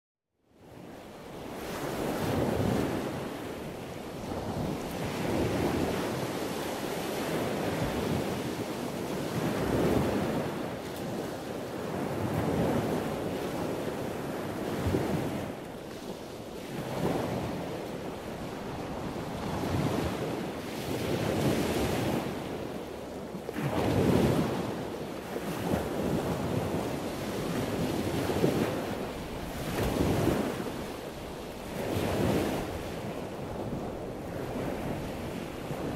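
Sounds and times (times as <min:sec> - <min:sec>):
wind noise on microphone: 0:00.6 - 0:35.9
waves washing: 0:00.8 - 0:35.9.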